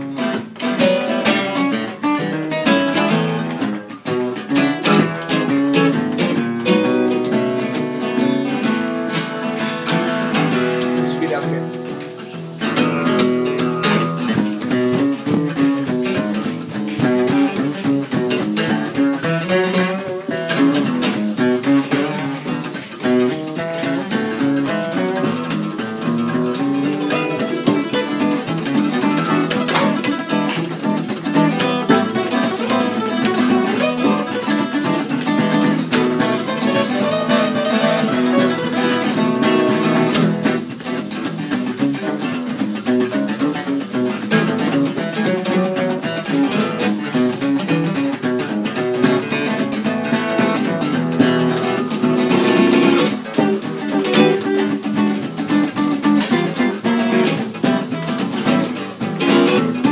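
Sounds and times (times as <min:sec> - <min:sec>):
acoustic guitar blues: 0:00.0 - 0:59.9.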